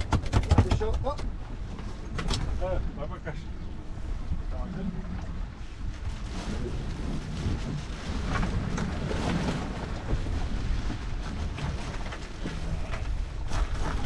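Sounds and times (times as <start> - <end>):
sea washing around hull: 0.0 - 14.0
wind buffeting microphone: 0.0 - 14.0.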